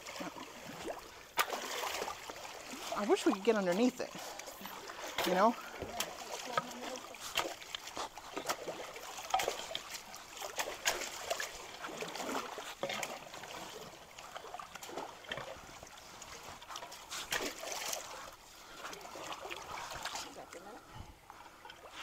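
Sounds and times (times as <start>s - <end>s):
trickle of flowing water: 0.0s - 22.0s
water splashing from wading: 0.0s - 22.0s.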